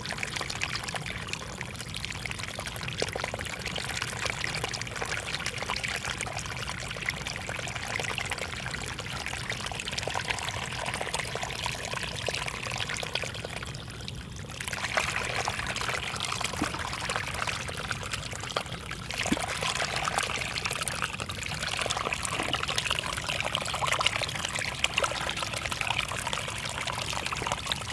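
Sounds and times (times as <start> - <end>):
water pouring and trickling: 0.0 - 27.9.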